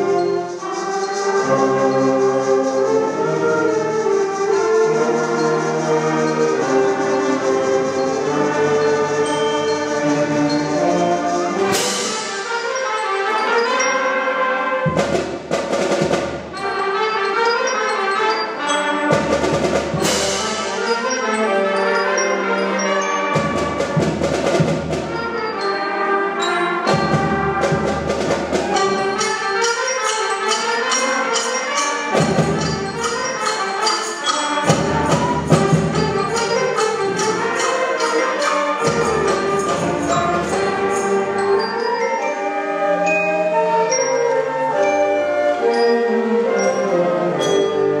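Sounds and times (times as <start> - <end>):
concert band playing: 0.0 - 48.0.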